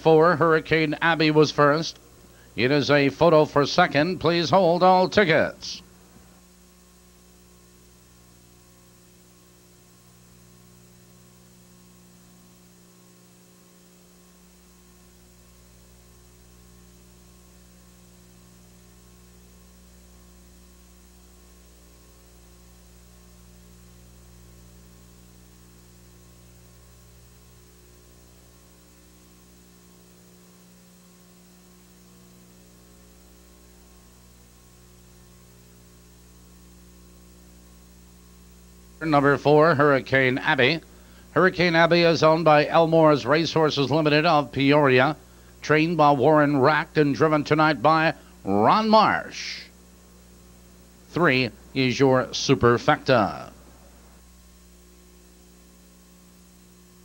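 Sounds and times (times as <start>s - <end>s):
faint electrical mains hum: 0.0s - 57.0s.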